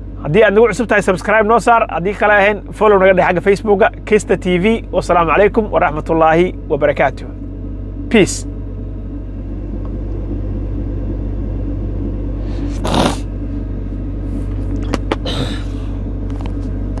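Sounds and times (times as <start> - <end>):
truck cab rumble and hum: 0.0 - 17.0.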